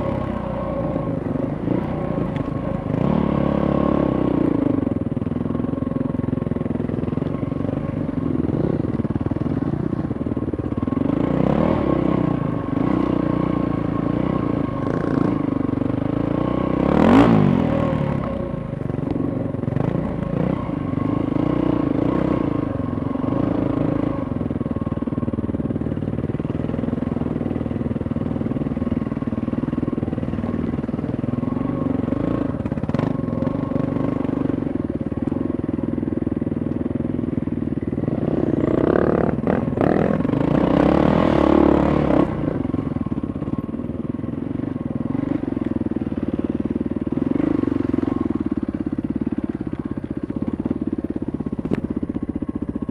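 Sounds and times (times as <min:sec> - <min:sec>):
dirt bike engines running: 0:00.0 - 0:52.9.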